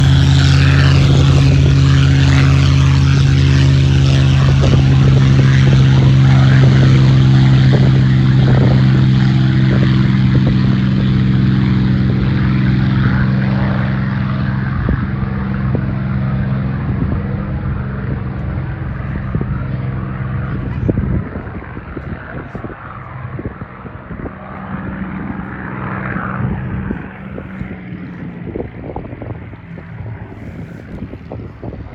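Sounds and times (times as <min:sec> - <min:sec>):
aircraft piston engine drone: 0:00.0 - 0:31.9
rough engine rumble: 0:00.0 - 0:31.9.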